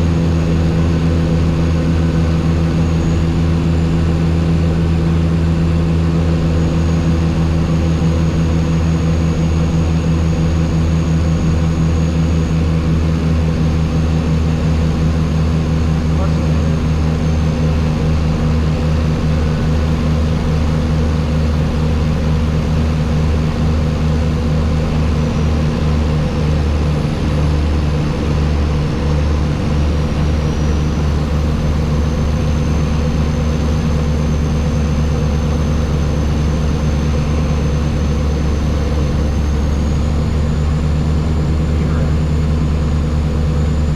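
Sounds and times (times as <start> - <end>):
turboprop engines droning: 0.0 - 43.9.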